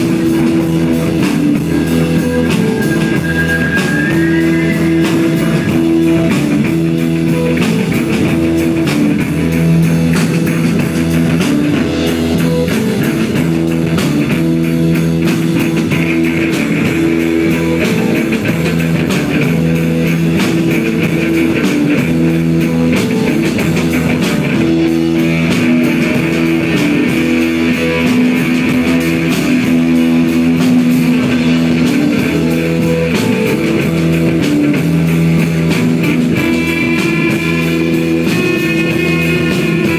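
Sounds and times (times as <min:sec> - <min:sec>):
bass guitar: 0:00.0 - 0:39.9
drum kit beat: 0:00.0 - 0:39.9
electric guitar: 0:00.0 - 0:39.9.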